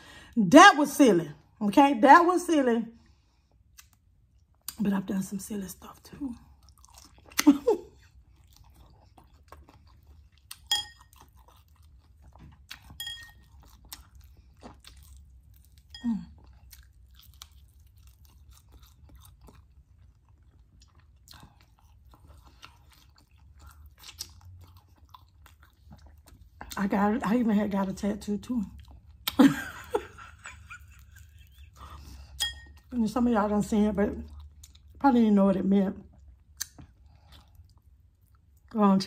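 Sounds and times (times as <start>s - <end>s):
chewing and crunching food: 3.0s - 5.1s, 5.7s - 39.0s.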